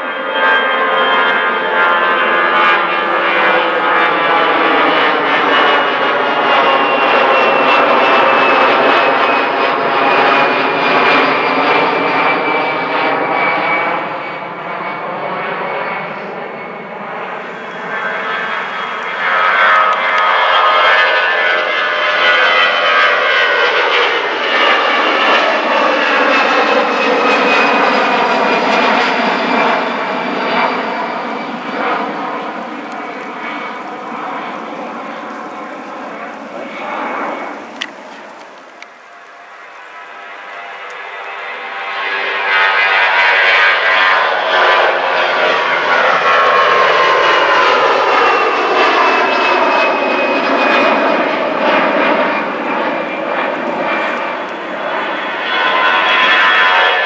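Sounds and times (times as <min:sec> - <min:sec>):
jet airliner engines passing overhead: 0:00.0 - 0:57.0.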